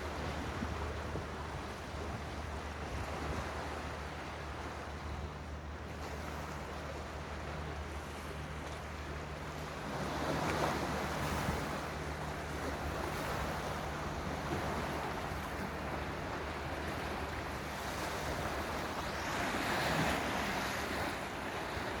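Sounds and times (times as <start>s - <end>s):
sea waves washing in: 0.0s - 22.0s.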